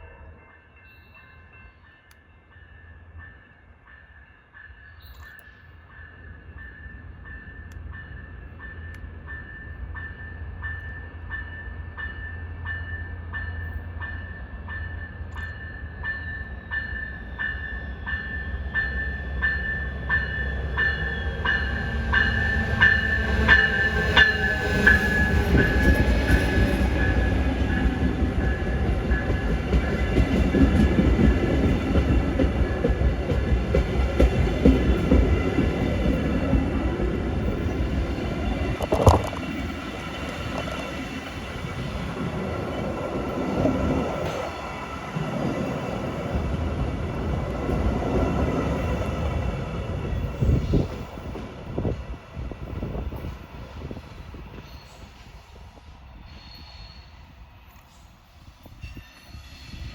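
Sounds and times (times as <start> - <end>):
passenger train passing: 0.0 - 59.9
rail and wheel noise: 0.0 - 59.9.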